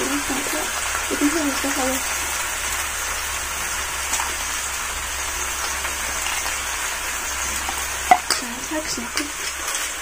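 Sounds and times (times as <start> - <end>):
snails sizzling in a wok: 0.0 - 10.0.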